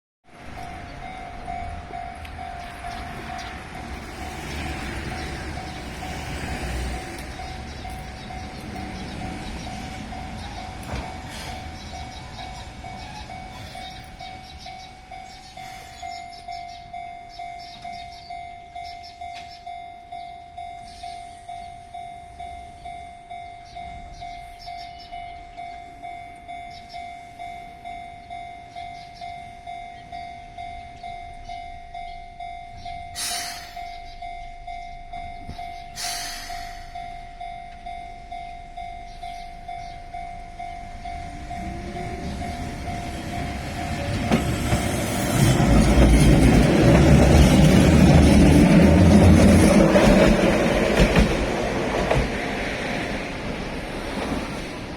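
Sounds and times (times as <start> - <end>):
train rumble: 0.3 - 54.9
level-crossing bell ringing: 0.4 - 36.0, 36.6 - 50.7.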